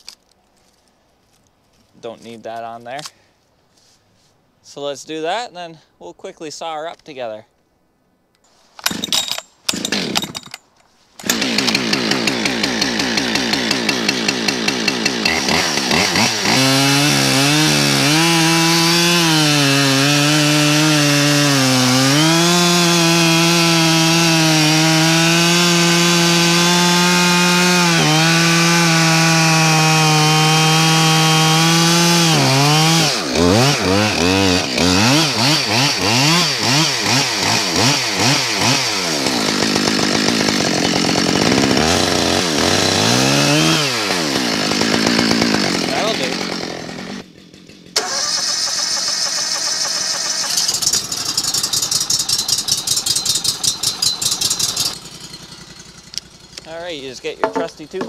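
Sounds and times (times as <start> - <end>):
chainsaw cutting log: 8.8 - 58.0.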